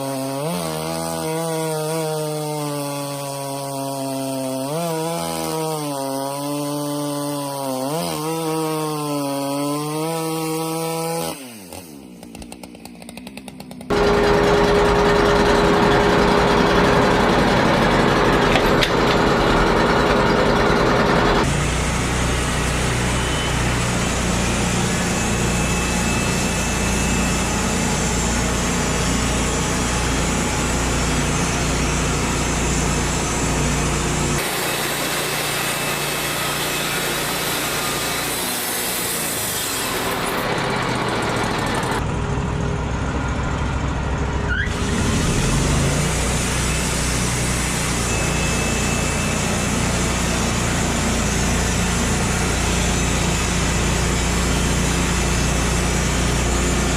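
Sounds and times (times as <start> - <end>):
sawmill machinery cutting: 0.0 - 56.9.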